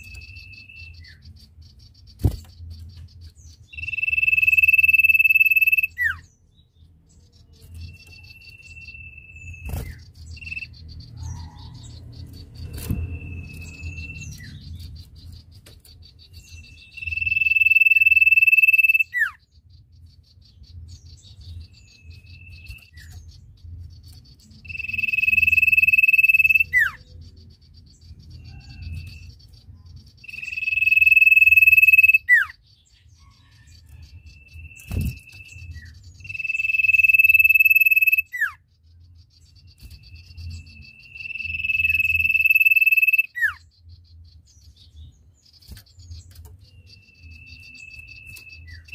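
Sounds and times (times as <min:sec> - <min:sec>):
bird whistling song: 0:00.0 - 0:06.6, 0:07.2 - 0:48.9.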